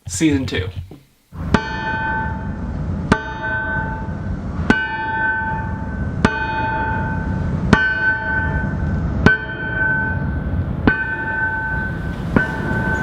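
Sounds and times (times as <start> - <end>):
low rumble: 1.4 - 13.0
hammer ringing on anvil: 1.5 - 13.0.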